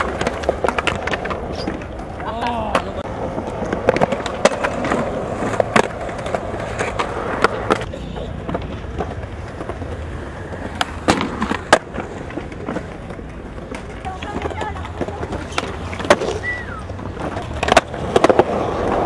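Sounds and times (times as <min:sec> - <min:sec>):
skateboard clacks: 0:00.0 - 0:19.0
skateboard wheels rolling on concrete: 0:00.0 - 0:19.0.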